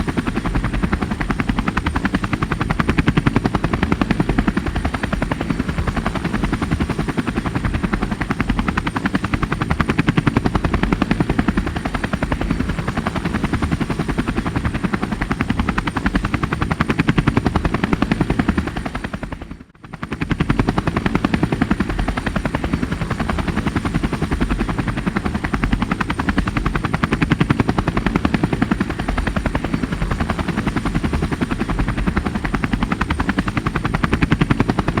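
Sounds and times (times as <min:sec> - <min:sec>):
helicopter rotor and engine: 0:00.0 - 0:35.0.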